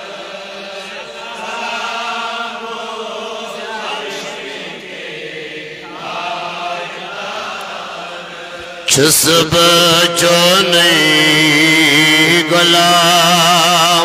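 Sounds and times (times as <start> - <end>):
slow devotional chanting: 0.0 - 14.0.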